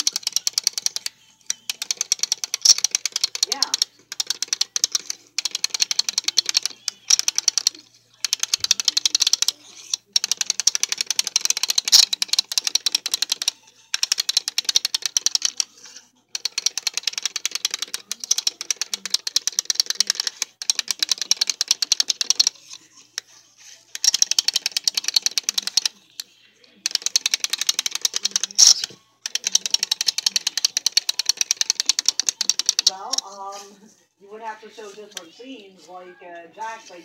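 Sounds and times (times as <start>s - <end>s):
plastic toy clicking rapidly: 0.0s - 33.7s.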